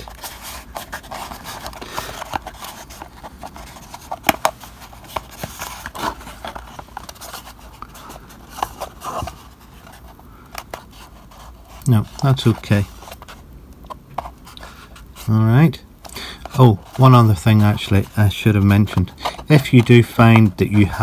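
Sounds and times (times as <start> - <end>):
card panels rubbing and scraping: 0.0 - 21.0.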